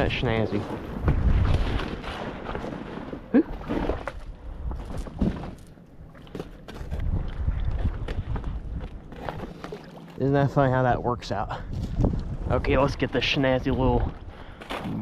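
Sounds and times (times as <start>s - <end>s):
wind rumble on microphone: 0.0s - 5.6s, 6.7s - 9.6s, 10.3s - 15.0s.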